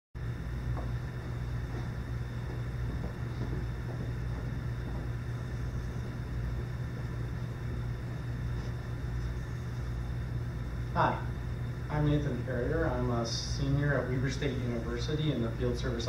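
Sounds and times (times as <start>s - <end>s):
low hum drone: 0.2s - 16.0s.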